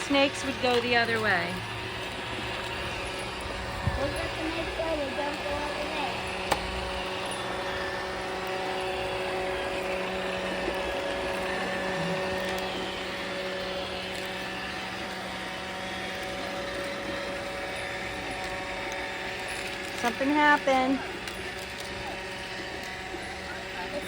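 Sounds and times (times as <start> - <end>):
robot vacuum motor hum: 0.0 - 24.0.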